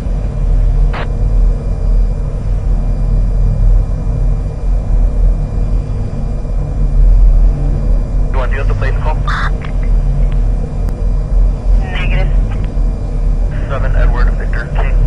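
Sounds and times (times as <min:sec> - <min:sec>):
low hum: 0:00.0 - 0:15.0
steady low rumble: 0:00.0 - 0:15.0.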